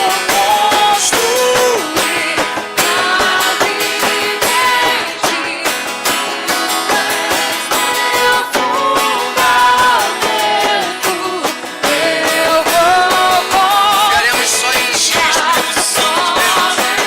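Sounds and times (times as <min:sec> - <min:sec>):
strummed guitars: 0:00.0 - 0:17.0.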